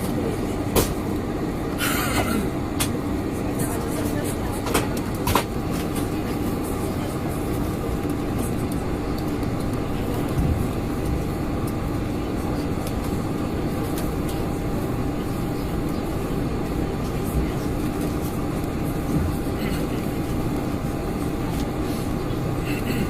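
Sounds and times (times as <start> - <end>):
airplane cabin hum: 0.0 - 23.0
faint background voices: 0.0 - 23.0.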